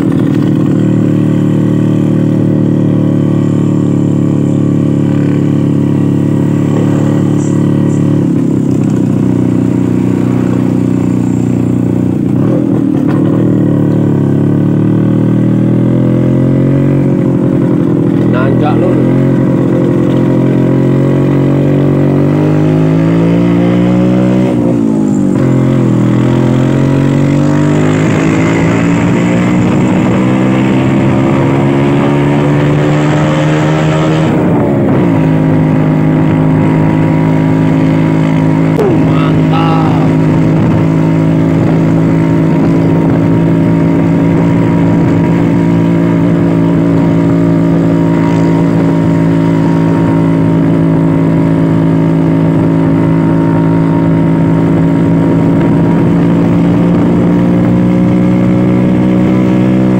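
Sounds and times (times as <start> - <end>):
scooter engine pulling uphill: 0.0 - 59.9.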